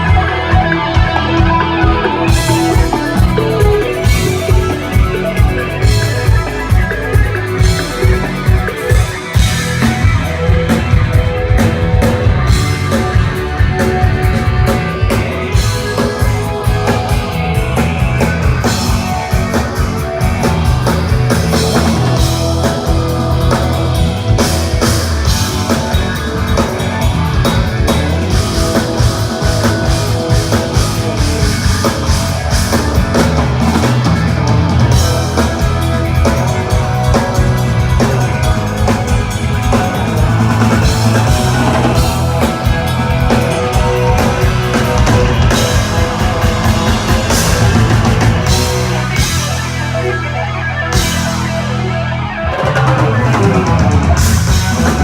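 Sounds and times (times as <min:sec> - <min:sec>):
drums and cymbals: 0:00.0 - 0:55.0
rock band playing live: 0:00.0 - 0:55.0.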